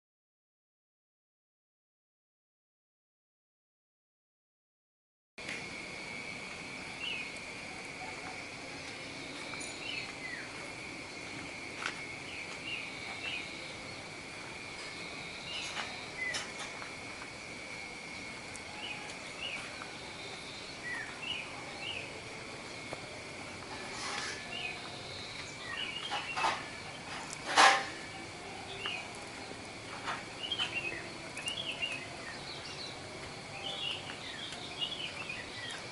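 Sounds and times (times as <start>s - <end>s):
birds chirping: 6.8s - 35.9s.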